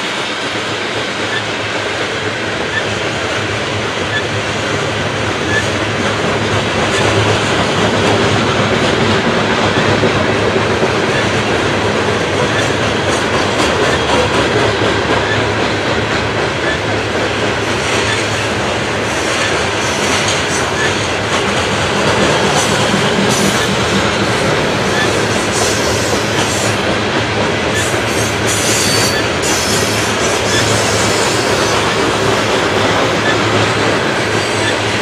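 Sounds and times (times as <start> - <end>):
steel train wheels on rails: 0.0 - 35.0.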